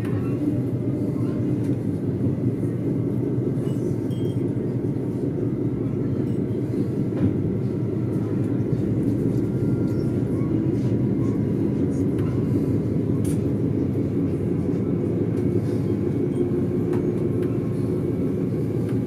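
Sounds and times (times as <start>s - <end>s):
train running rumble and hum: 0.0s - 19.0s.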